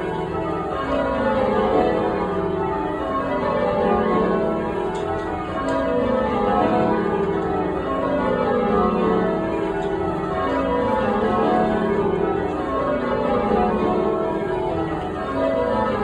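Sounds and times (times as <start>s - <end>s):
church bells change ringing: 0.0s - 16.0s.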